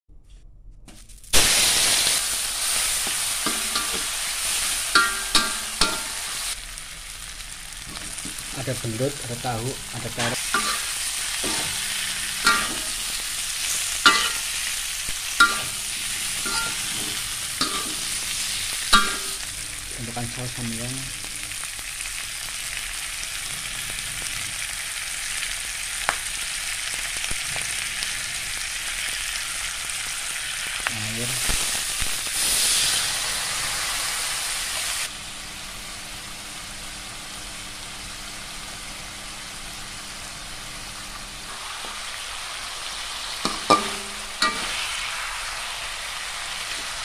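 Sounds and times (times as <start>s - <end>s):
food sizzling in a wok: 1.0s - 47.0s
water hissing in hot wok: 1.2s - 47.0s.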